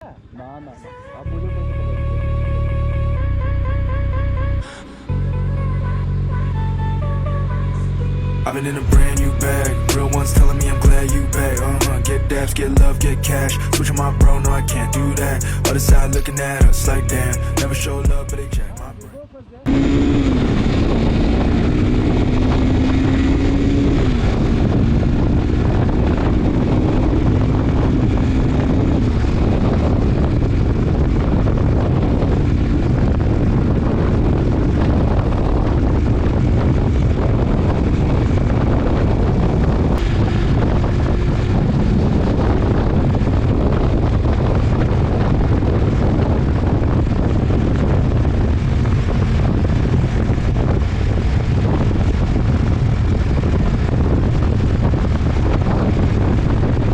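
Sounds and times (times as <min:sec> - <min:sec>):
motorcycle engine hum: 0:01.3 - 0:56.9
wind buffeting microphone: 0:08.4 - 0:56.9.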